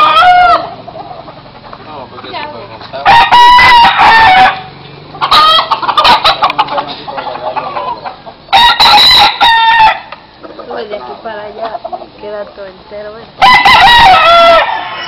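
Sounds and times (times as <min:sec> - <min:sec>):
roosters crowing: 0:00.0 - 0:15.0.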